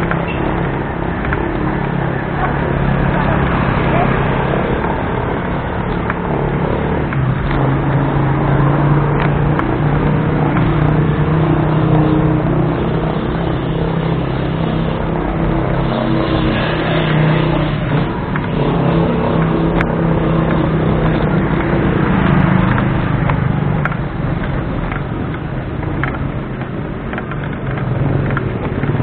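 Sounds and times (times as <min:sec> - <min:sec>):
rough road noise: 0:00.0 - 0:29.0
vehicle engine humming: 0:00.0 - 0:29.0.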